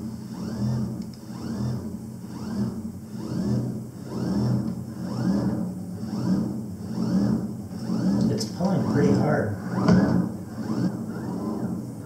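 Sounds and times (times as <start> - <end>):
motor whirring whine: 0.0 - 12.0
pulsing low hum: 0.0 - 12.0.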